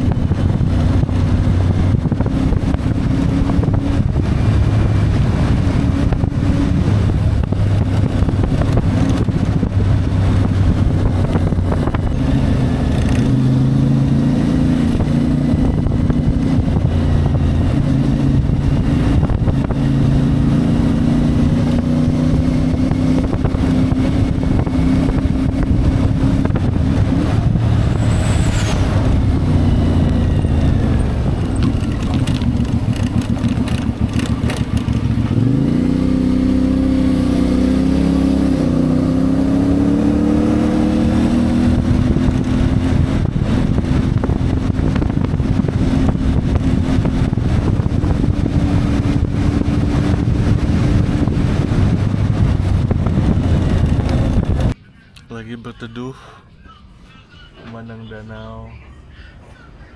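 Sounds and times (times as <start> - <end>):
motorcycle engine revving: 0.0 - 54.8.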